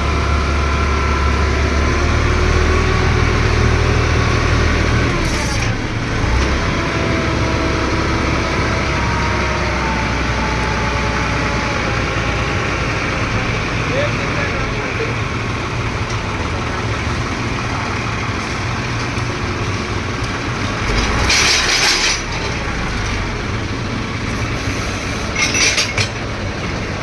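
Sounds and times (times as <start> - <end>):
drilling machine engine running: 0.0 - 27.0.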